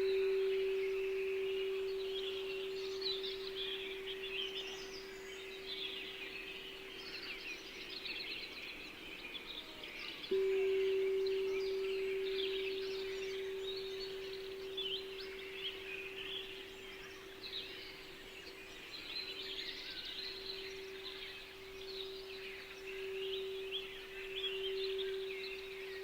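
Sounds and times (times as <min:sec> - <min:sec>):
singing bowl ringing: 0:00.0 - 0:08.0, 0:10.3 - 0:26.0
songbirds chirping: 0:00.0 - 0:26.0.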